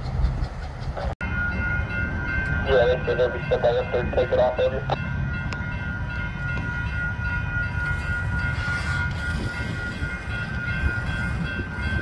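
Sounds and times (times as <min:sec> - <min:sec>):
train rumbling: 0:00.0 - 0:12.0
crossing warning bell ringing: 0:00.1 - 0:12.0.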